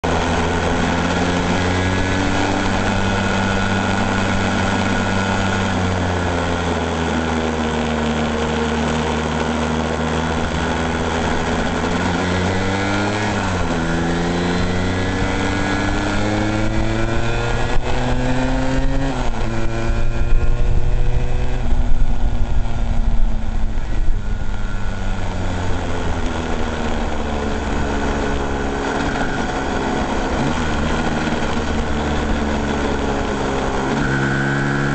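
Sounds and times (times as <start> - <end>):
engine running: 0.0 - 34.9.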